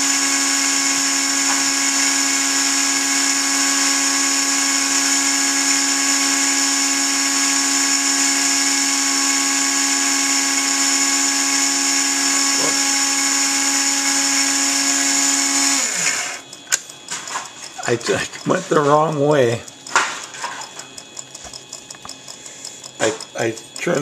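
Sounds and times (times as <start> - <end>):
rotary tool high whine: 0.0 - 24.0.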